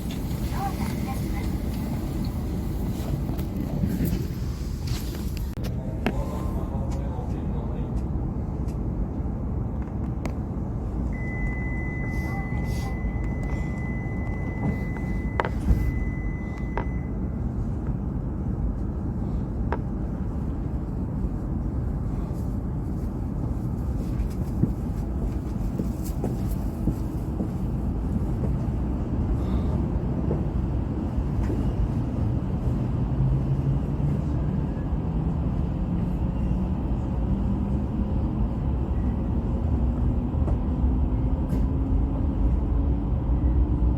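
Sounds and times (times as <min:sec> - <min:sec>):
train low rumble: 0:00.0 - 0:43.9.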